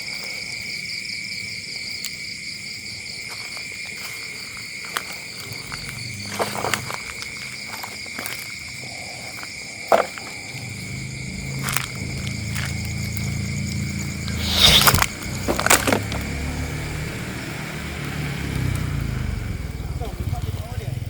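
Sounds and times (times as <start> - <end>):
high insect chirring: 0.8 - 17.8.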